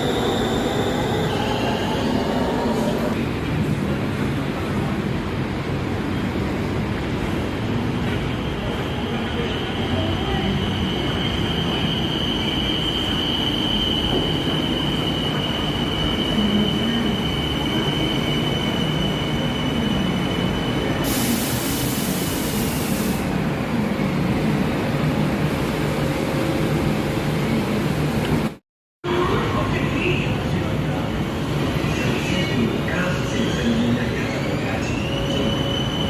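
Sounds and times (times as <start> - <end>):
train rumbling on rails with whine: 0.0 - 36.0.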